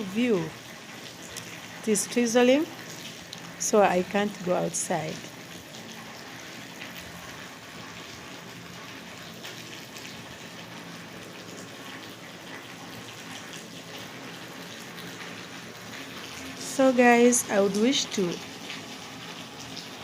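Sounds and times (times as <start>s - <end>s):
light rain falling: 0.0s - 20.0s
water running off roof: 0.0s - 20.0s.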